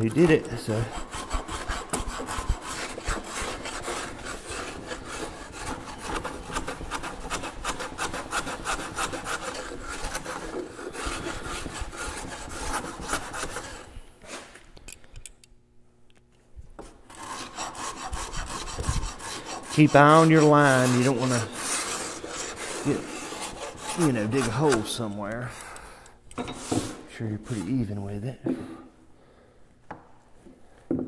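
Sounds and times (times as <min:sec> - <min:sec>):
hand tool scraping wood: 0:00.0 - 0:14.6, 0:16.8 - 0:25.8, 0:26.4 - 0:28.8.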